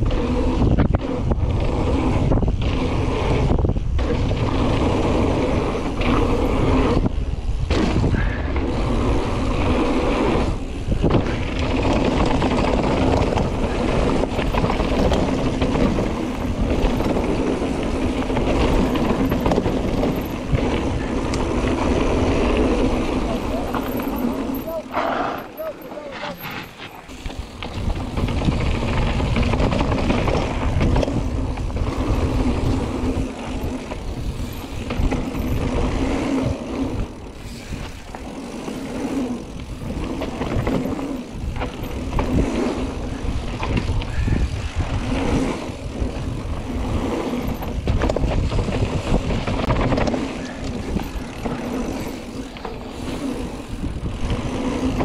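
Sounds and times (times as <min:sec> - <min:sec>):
bike knocking and rattling: 0:00.0 - 0:55.0
bike tyres rumbling over ground: 0:00.0 - 0:55.0.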